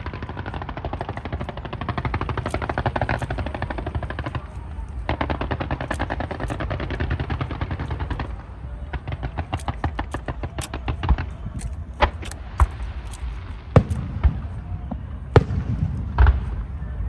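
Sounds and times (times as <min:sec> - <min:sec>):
fireworks crackling bangs: 0:00.0 - 0:16.9.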